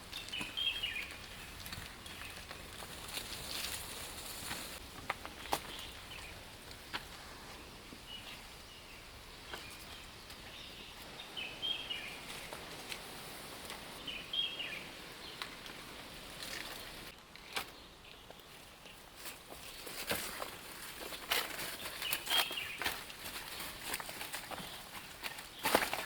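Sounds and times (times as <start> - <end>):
small birds chirping: 0.0 - 26.0
steady outdoor hiss: 0.0 - 26.0.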